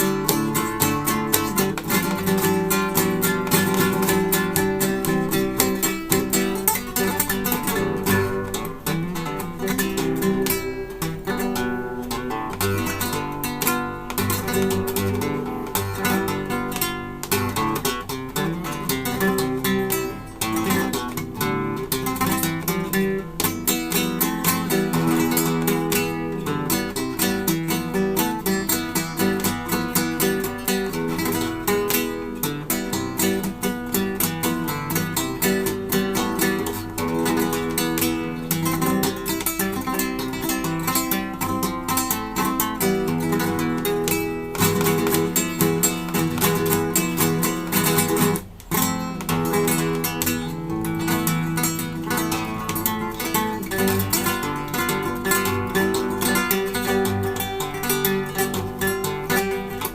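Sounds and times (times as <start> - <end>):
acoustic guitar flamenco style: 0.0 - 59.9.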